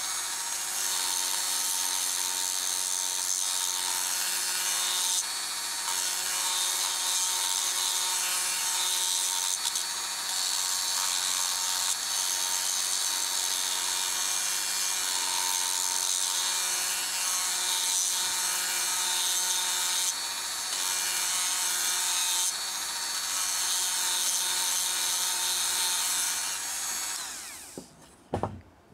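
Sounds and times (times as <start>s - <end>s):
rotary tool motor whine: 0.0s - 27.9s.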